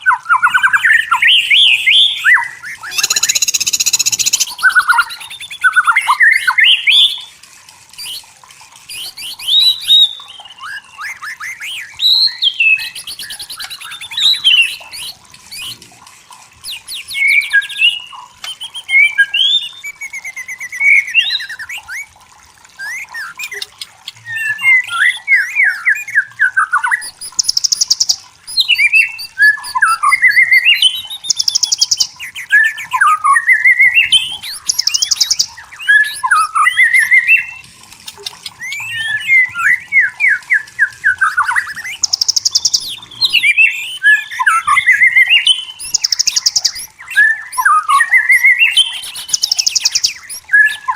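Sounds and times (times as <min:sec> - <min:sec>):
bird whistling song: 0:00.0 - 0:07.4, 0:08.0 - 0:08.3, 0:08.9 - 0:15.8, 0:16.6 - 0:22.1, 0:22.8 - 0:50.9.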